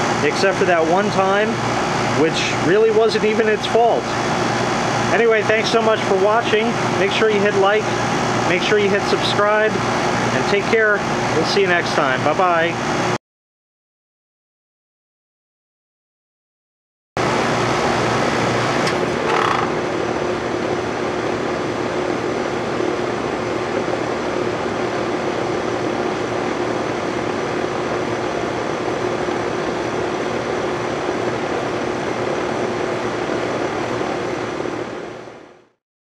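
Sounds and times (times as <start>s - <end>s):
air conditioner humming: 0.0s - 13.2s, 17.2s - 35.7s.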